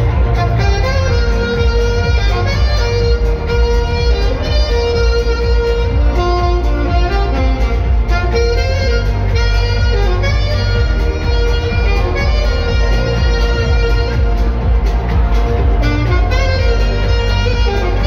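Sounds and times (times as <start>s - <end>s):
alto saxophone melody: 0.0s - 18.0s
backing track with deep bass: 0.0s - 18.0s.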